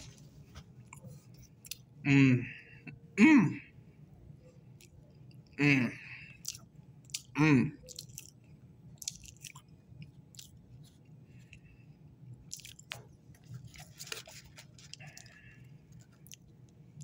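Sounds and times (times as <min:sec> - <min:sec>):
faint chewing of cookie: 0:00.0 - 0:02.0, 0:04.3 - 0:17.0.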